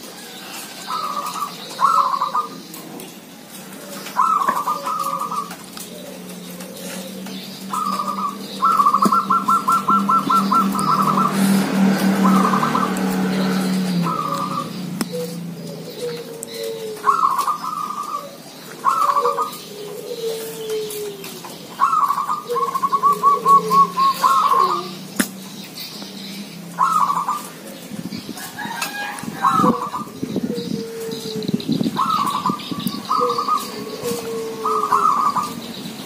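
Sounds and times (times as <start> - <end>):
doves cooing: 0.0 - 36.0.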